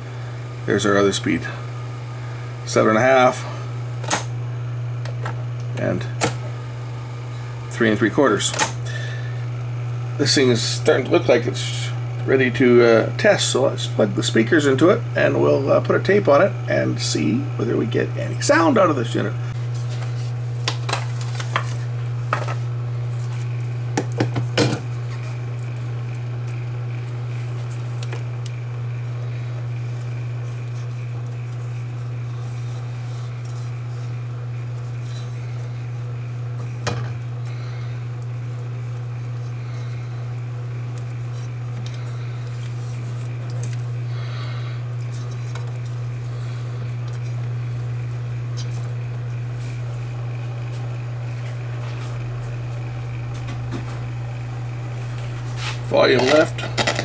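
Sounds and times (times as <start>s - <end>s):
tape deck humming: 0.0s - 57.0s.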